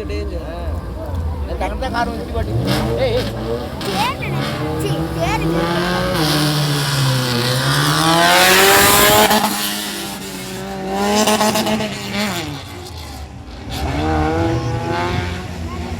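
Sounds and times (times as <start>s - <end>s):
race car engine revving: 0.0s - 15.9s.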